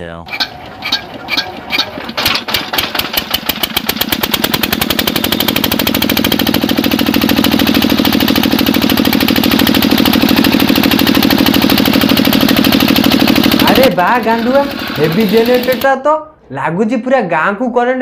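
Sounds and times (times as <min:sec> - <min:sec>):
generator engine chugging: 0:00.3 - 0:16.0.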